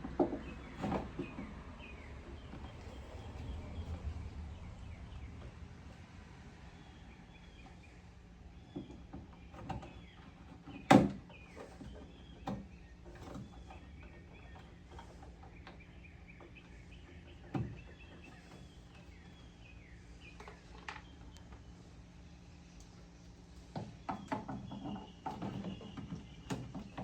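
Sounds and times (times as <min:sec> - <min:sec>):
birds chirping faintly: 0:00.1 - 0:27.0.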